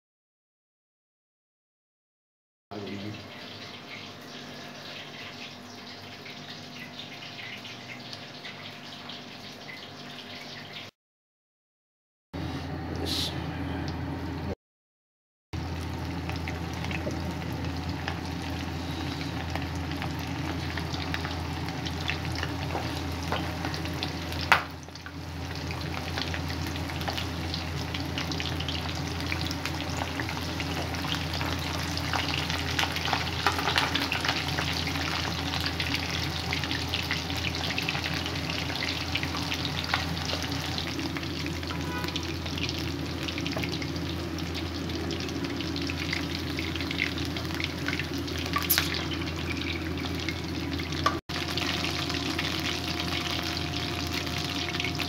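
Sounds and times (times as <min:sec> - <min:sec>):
oil sizzling while deep-frying: 0:02.7 - 0:10.9, 0:15.6 - 0:55.0.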